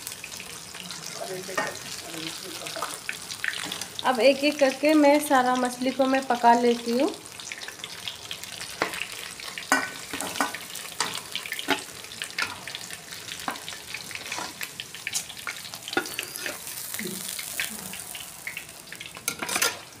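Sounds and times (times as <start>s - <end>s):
fish frying in hot oil: 0.0s - 20.0s.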